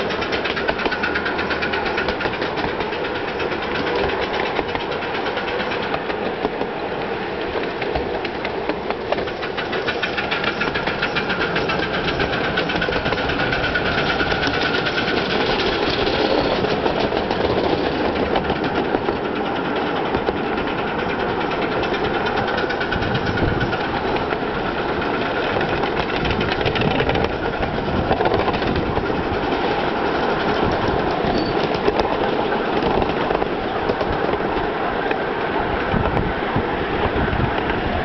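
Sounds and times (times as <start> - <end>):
steam locomotive running: 0.0 - 38.0
wheels clattering on rails: 0.0 - 38.0.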